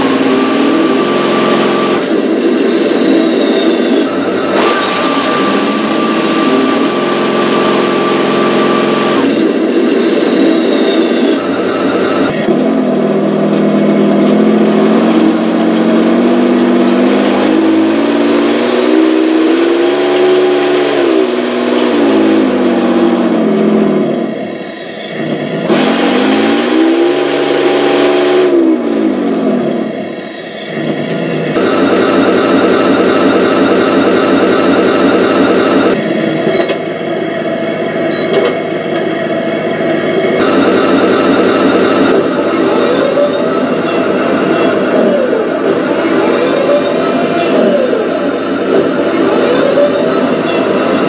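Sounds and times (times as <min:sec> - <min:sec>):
simulated tank engine from speaker: 0:00.0 - 0:51.0.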